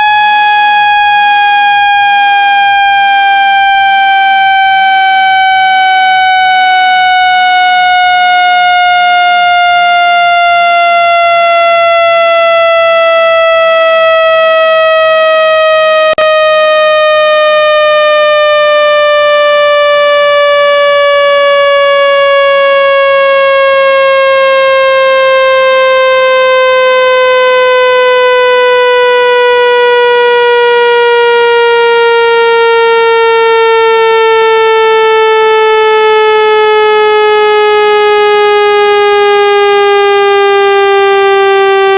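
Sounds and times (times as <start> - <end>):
buzzy falling synthetic tone: 0.0 - 41.9.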